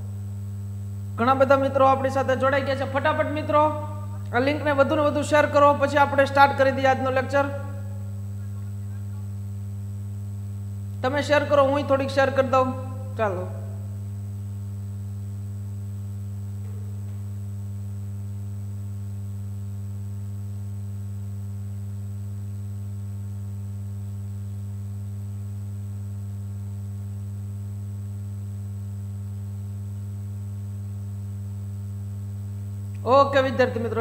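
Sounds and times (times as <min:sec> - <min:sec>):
faint high whine: 0:00.0 - 0:34.0
mains hum: 0:00.0 - 0:34.0.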